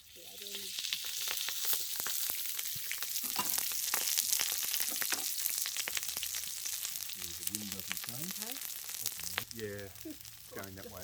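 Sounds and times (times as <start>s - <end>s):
food sizzling on a barbecue: 0.0s - 11.0s.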